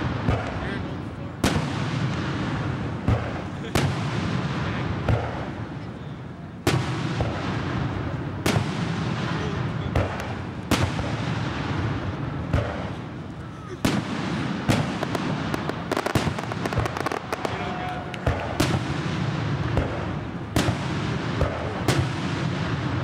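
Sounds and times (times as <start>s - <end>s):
fireworks bursting: 0.0s - 23.0s
low rumble and echo: 0.0s - 23.0s.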